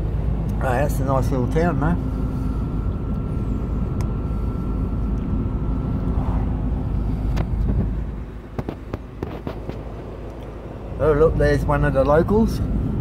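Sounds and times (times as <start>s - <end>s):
thin high whine: 0.0s - 11.6s
truck engine and road rumble: 0.0s - 13.0s.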